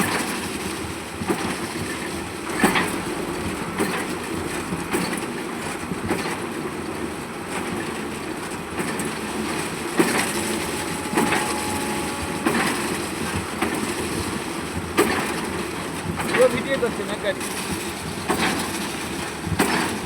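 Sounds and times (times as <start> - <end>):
heavy machinery rumble: 1.2 - 20.0.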